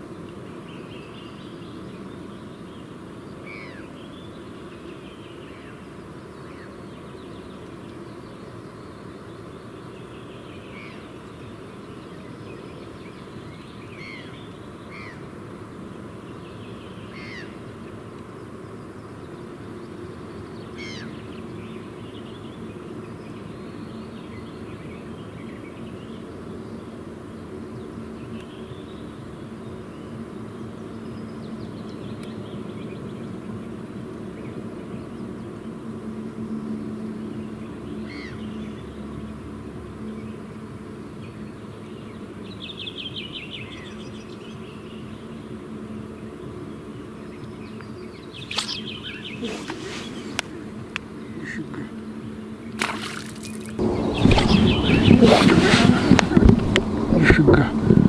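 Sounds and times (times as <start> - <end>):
birds chirping: 0.0 - 57.9
low droning hum: 0.0 - 58.0.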